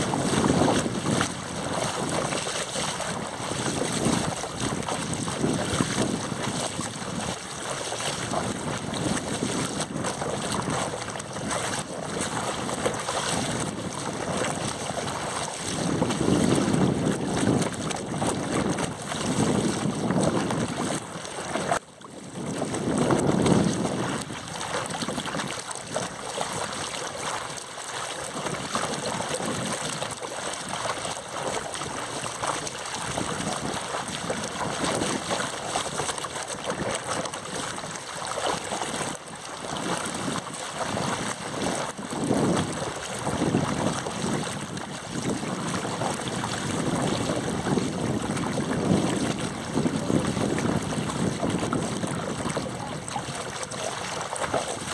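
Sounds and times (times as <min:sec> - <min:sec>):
water rushing and splashing: 0:00.0 - 0:54.9
wind on microphone: 0:00.0 - 0:54.9.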